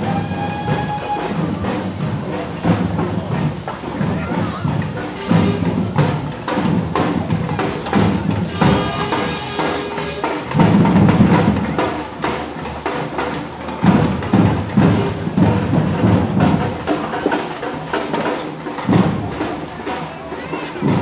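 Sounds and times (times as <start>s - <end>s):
music with drums and percussion: 0.0s - 21.0s.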